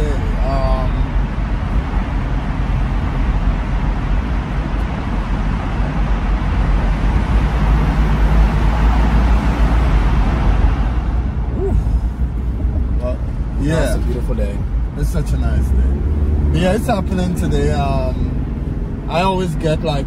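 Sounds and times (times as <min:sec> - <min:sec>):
car road noise rumble: 0:00.0 - 0:20.0.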